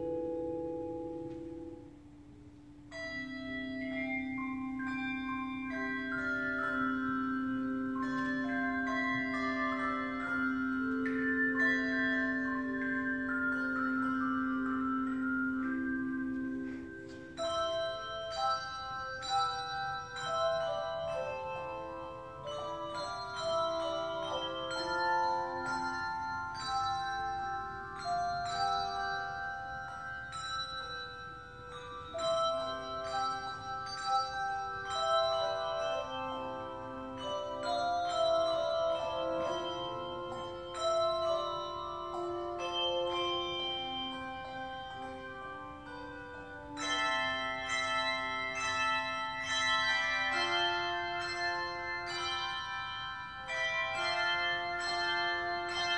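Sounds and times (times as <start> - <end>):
handbell choir ringing: 0.0 - 55.9.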